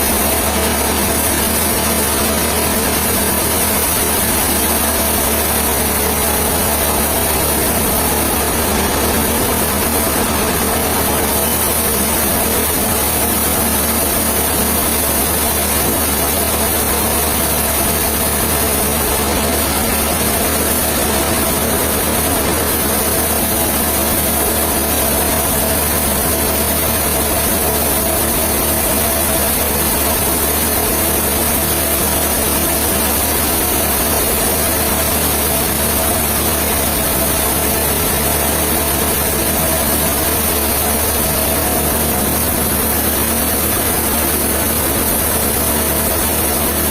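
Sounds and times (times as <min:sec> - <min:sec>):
engine running: 0:00.0 - 0:46.9.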